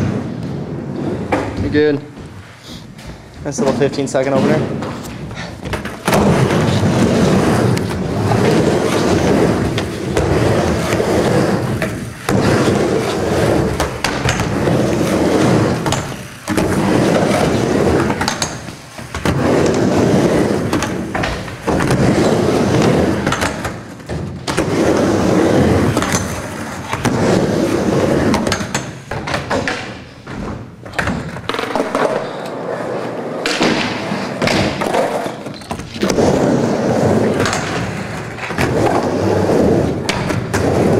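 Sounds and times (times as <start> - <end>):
skateboard wheels rolling on wood: 0.0 - 40.9
skateboard clacks: 4.8 - 40.9.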